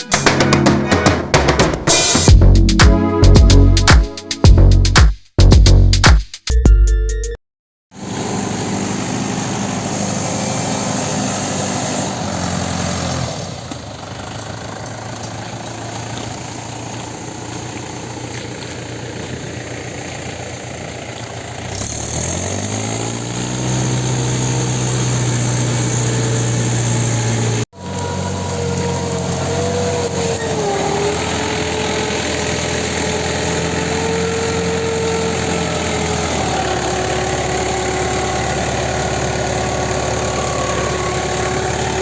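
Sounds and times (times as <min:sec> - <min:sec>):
tractor diesel engine running: 0:00.0 - 0:03.9, 0:08.0 - 0:42.0.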